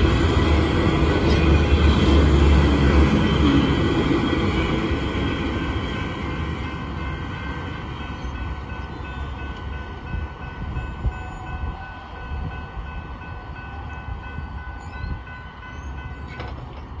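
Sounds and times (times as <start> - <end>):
freight cars rolling on rails: 0.0 - 17.0.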